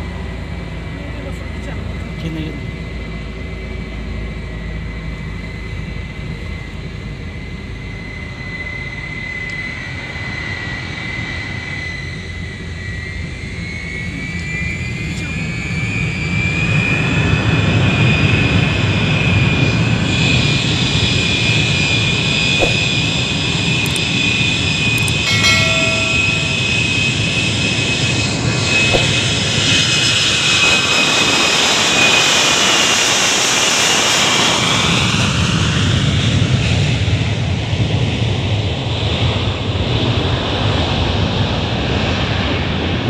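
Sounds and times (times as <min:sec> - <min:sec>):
jet engines whining and roaring: 0:00.0 - 0:43.0.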